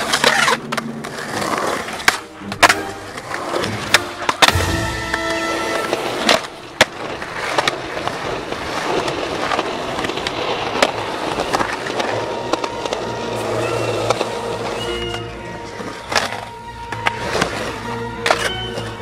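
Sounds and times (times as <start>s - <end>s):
skateboard clacking on ground: 0.0s - 19.0s
skateboard wheels rolling on concrete: 0.0s - 19.0s.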